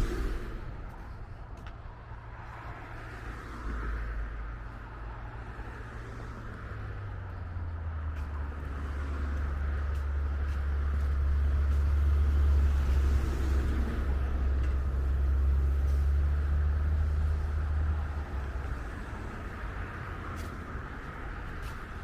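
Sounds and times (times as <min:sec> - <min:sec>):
large vehicle engine rumble: 0:00.0 - 0:22.0.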